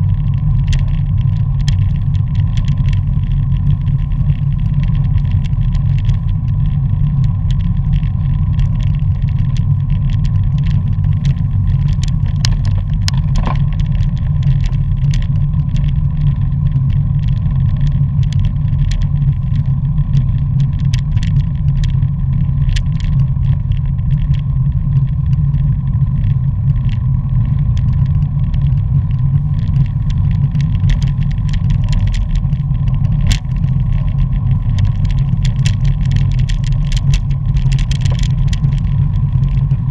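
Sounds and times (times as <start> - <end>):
bike clicks and rattles: 0.0 - 39.9
wind rushing over microphone: 0.0 - 39.9.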